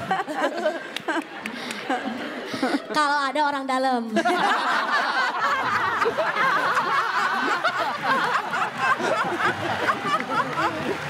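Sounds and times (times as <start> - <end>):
audience laughing: 0.0 - 3.1, 4.1 - 11.0.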